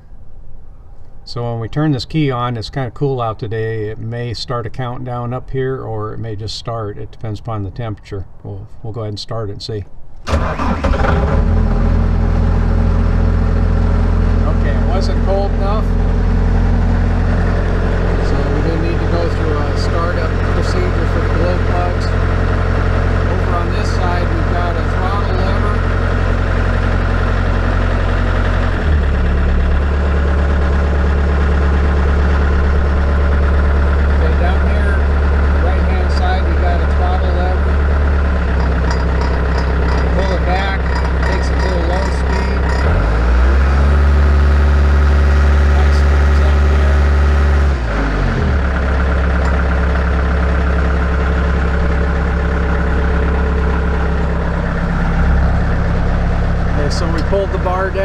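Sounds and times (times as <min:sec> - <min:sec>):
diesel engine idling: 0:10.2 - 0:58.0.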